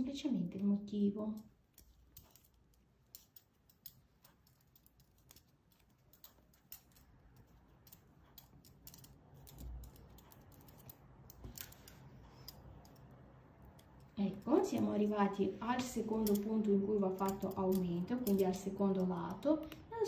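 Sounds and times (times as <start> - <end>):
knitting needles clicking: 0.3 - 20.0.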